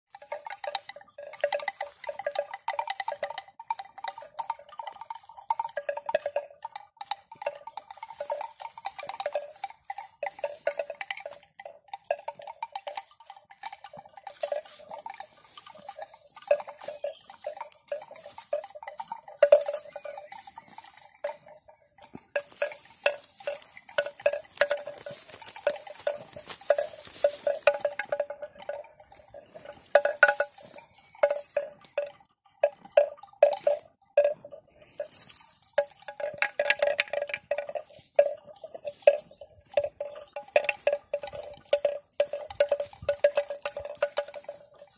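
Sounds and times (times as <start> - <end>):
bell clonking: 0.2 - 44.9.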